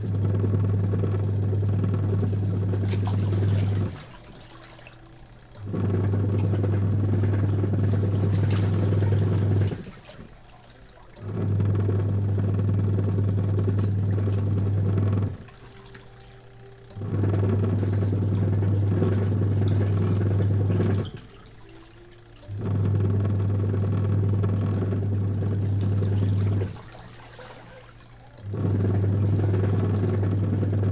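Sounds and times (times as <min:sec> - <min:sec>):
factory machine humming: 0:00.0 - 0:30.9.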